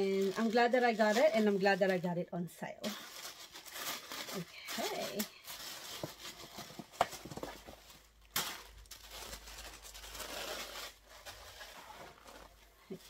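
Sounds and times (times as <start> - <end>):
packaging rustling: 0.0 - 2.1, 2.8 - 13.0.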